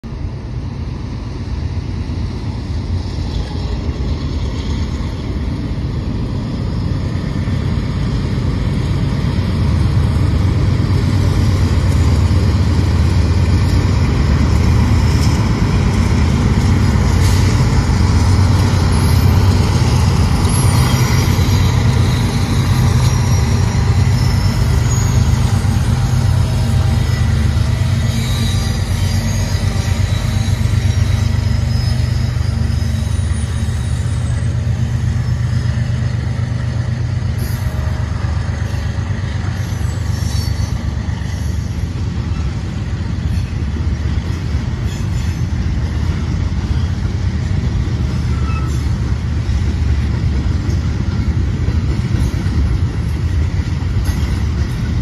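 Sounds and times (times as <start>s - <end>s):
locomotive engine rumble: 0.0s - 55.0s
train cars rolling past: 0.0s - 55.0s.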